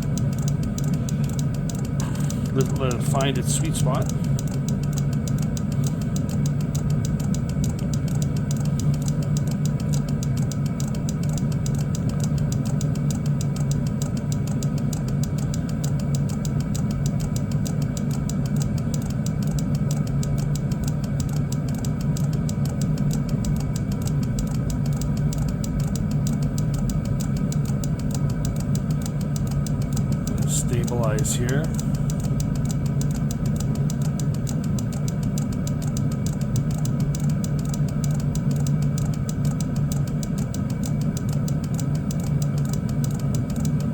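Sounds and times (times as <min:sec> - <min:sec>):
diesel heater humming: 0:00.0 - 0:43.9.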